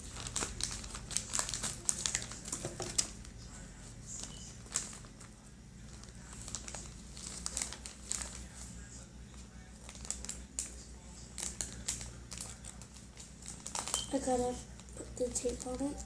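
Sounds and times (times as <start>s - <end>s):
packaging crinkling and rustling: 0.0s - 3.3s, 4.2s - 8.6s, 9.5s - 16.0s.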